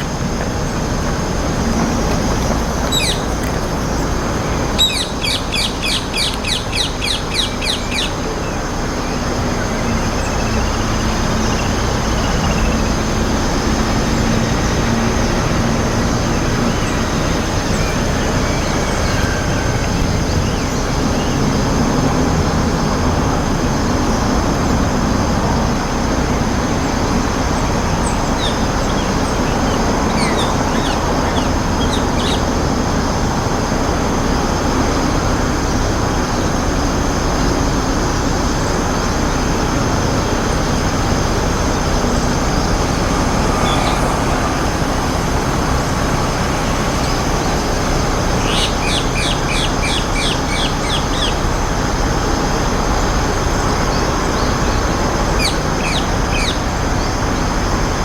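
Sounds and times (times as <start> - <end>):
parakeets calling: 0.0 - 22.2, 25.4 - 33.6, 40.5 - 58.0
traffic rumble: 0.0 - 58.0.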